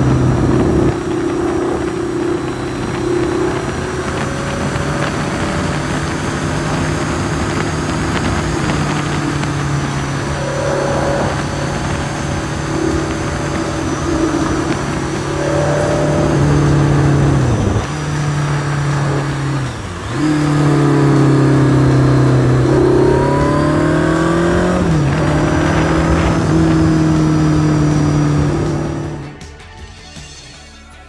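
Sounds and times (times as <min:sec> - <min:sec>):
motorcycle engine accelerating: 0:00.0 - 0:29.5.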